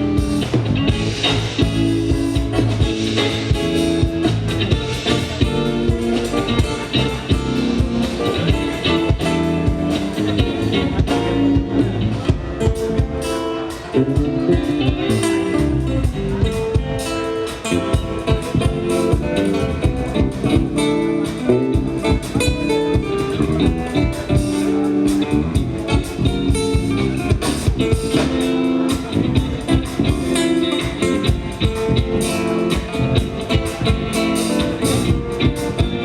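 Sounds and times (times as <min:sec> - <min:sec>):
guitar: 0:00.0 - 0:36.0
live band playing: 0:00.0 - 0:36.0.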